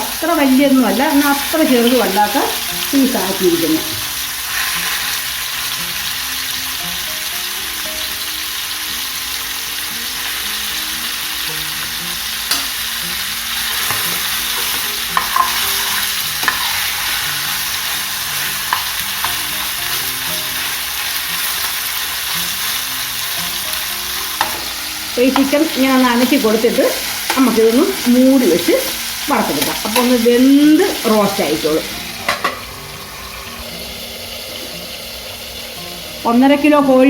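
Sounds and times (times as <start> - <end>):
chicken sizzling in oil: 0.0 - 37.0.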